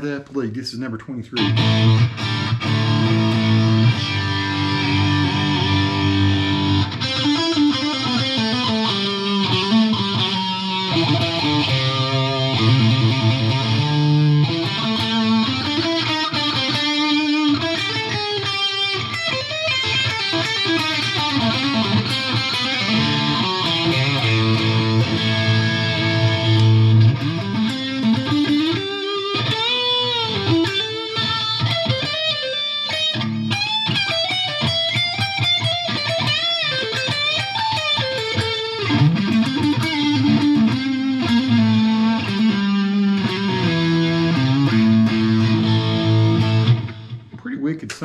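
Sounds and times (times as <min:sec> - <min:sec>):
electric guitar lead: 0:01.4 - 0:47.4.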